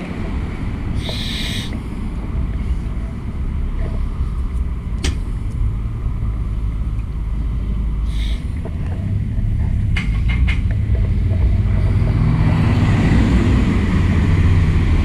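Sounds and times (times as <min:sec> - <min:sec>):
bike tyres on road: 0:00.0 - 0:15.0.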